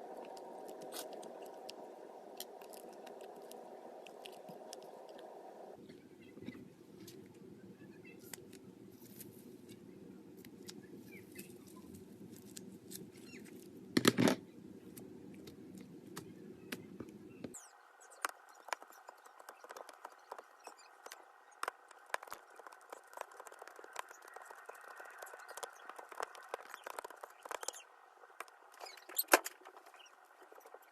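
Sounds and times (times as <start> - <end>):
low background hum: 0.0 - 30.9.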